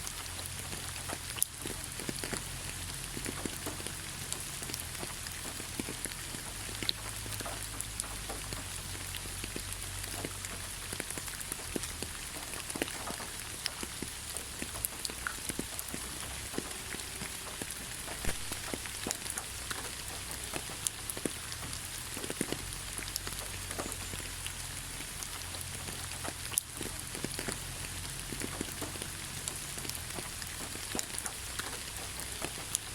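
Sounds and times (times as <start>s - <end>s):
rain falling on leaves: 0.0s - 32.9s.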